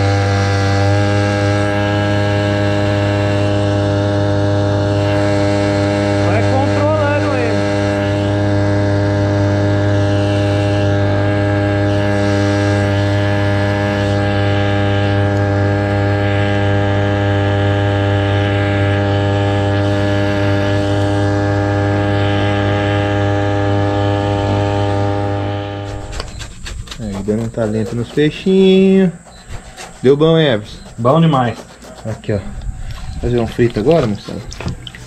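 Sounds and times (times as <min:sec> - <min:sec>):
small boat motor humming: 0:00.0 - 0:35.0.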